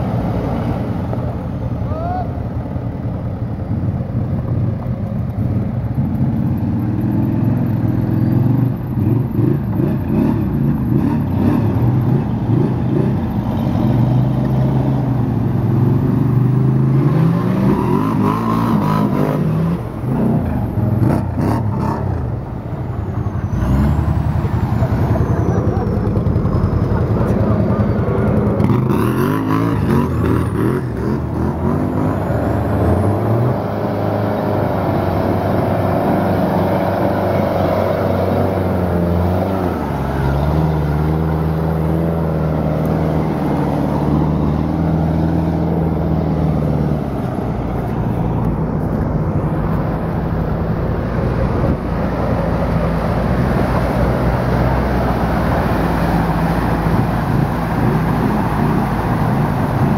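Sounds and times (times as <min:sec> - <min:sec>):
off-road vehicle engine revving: 0:06.1 - 0:22.5, 0:23.4 - 0:59.9.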